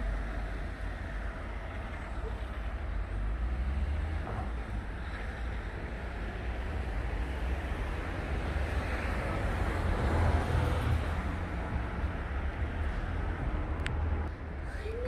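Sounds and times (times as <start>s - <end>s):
outdoor rush of noise: 0.0s - 15.0s.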